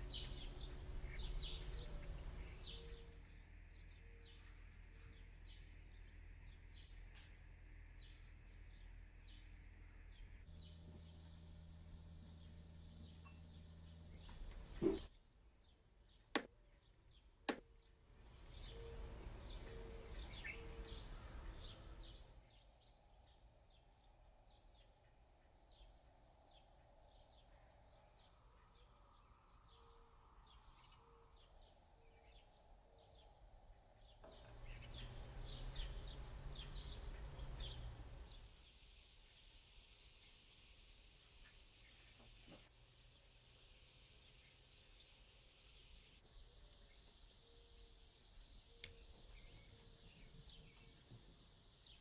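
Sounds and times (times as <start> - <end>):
faint bird chirps: 0.0 - 15.2, 17.8 - 52.0.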